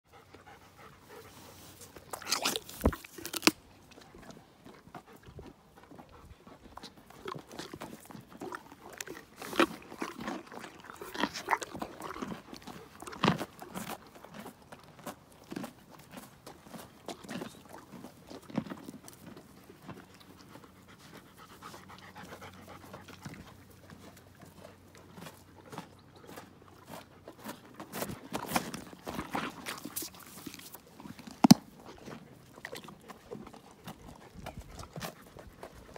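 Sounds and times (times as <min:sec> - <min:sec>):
animal breathing and panting: 0:00.1 - 0:03.1, 0:03.8 - 0:35.9
ponies crunching carrots: 0:00.1 - 0:35.9.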